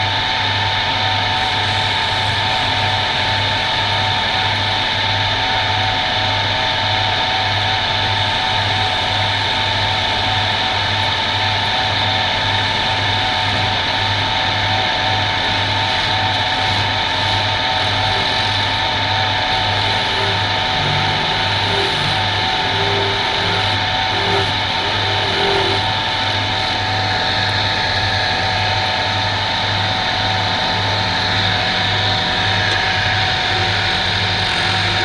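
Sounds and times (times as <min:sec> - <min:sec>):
electric power tool whining: 0:00.0 - 0:35.0.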